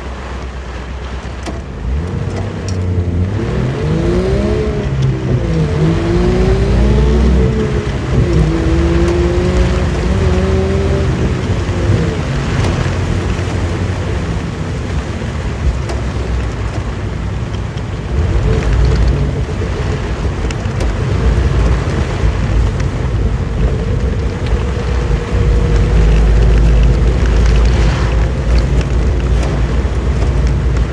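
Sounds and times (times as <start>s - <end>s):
car engine rumble: 0.0s - 30.9s
heavy rain hiss: 0.0s - 30.9s.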